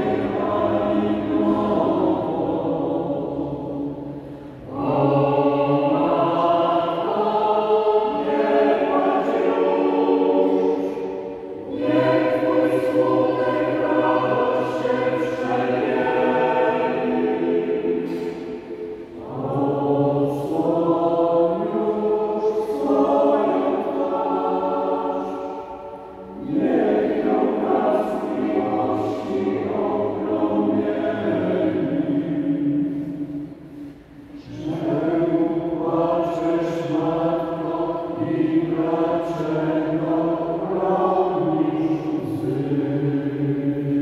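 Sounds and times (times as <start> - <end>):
church choir singing a hymn: 0.0 - 44.0.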